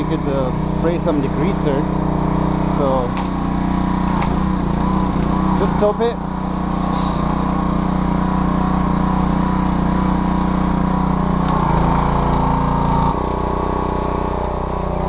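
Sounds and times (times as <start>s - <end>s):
pressure washer spraying: 0.0s - 15.0s.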